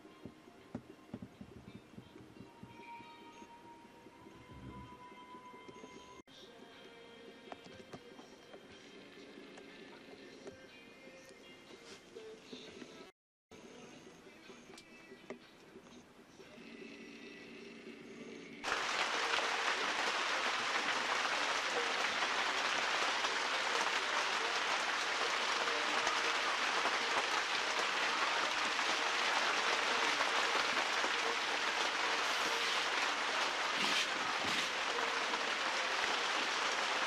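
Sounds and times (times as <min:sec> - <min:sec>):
faint music: 0:00.0 - 0:37.0.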